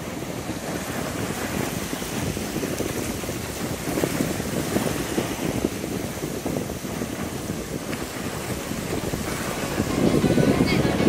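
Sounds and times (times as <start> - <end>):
small waves washing on sand: 0.0 - 11.0
wind rumbling on microphone: 0.0 - 11.0.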